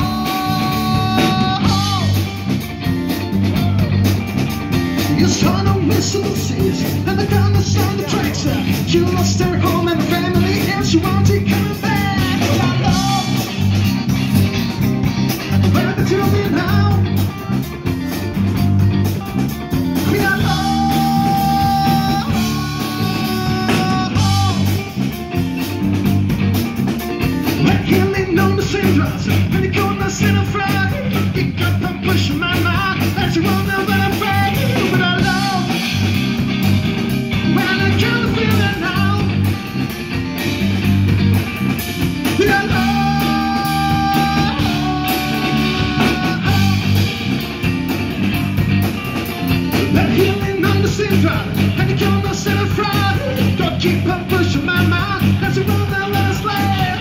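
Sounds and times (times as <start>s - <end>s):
bass guitar: 0.0s - 57.0s
drum kit: 0.0s - 57.0s
electric guitar: 0.0s - 57.0s
lead melody line: 0.0s - 57.0s.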